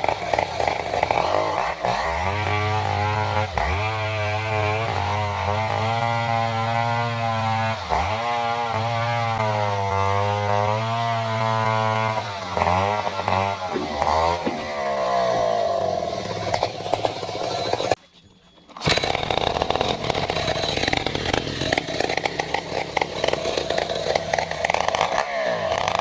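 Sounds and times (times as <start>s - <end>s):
chainsaw cutting log: 0.0s - 18.0s, 18.8s - 26.0s.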